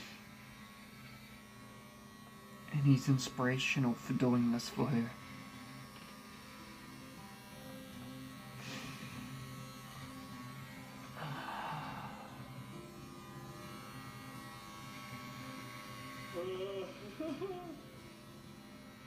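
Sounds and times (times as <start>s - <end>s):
electric hair clippers buzzing: 0.0s - 19.0s
soft background music: 0.3s - 19.0s.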